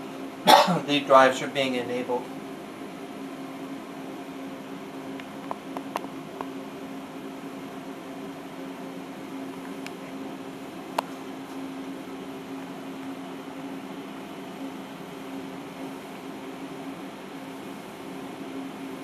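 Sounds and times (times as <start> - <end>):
machine electrical hum: 0.0 - 19.0.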